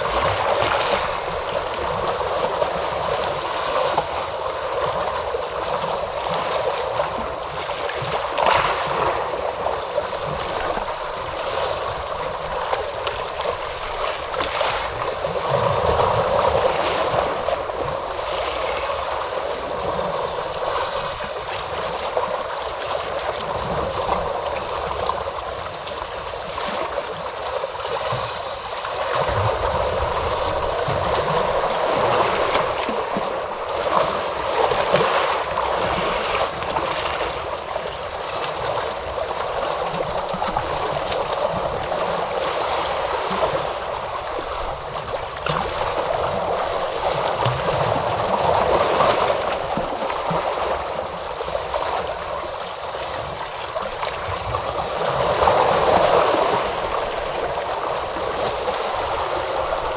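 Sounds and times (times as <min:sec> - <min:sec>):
ocean surf rushing: 0:00.0 - 0:59.9.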